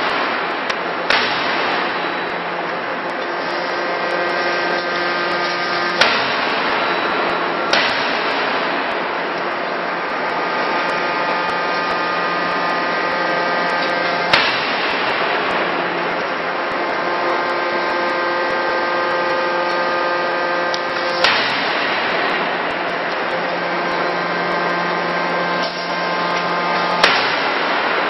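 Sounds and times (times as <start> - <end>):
forging hammer blow: 0.0 - 28.0
machine whirring: 0.0 - 28.0.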